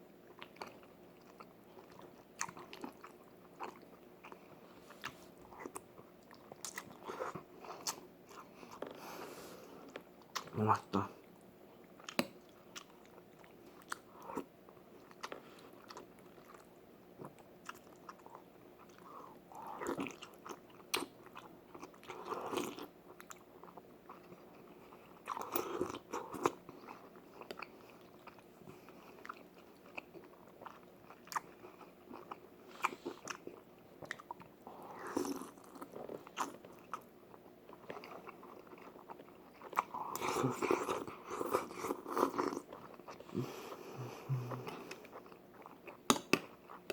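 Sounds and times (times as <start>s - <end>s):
person chewing: 0.4s - 9.2s, 11.9s - 46.9s.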